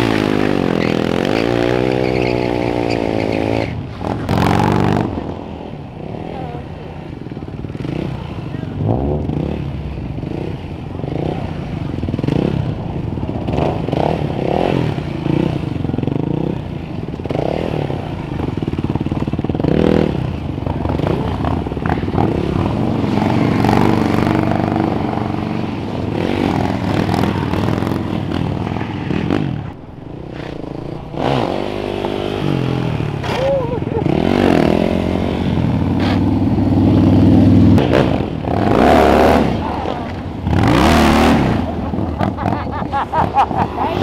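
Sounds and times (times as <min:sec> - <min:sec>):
vehicle engine revving: 0:00.0 - 0:44.0.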